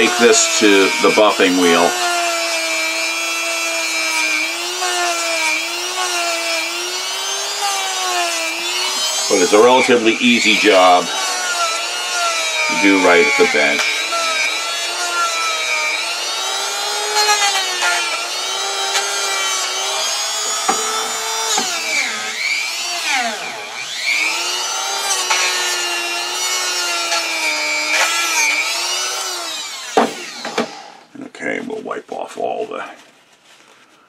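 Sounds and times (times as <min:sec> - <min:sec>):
rotary tool whining: 0:00.0 - 0:31.1.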